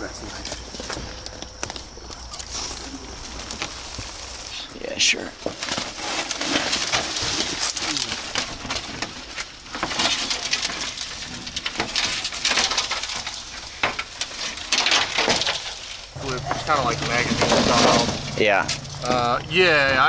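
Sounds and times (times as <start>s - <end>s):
dry leaves crunching: 0.0s - 19.8s.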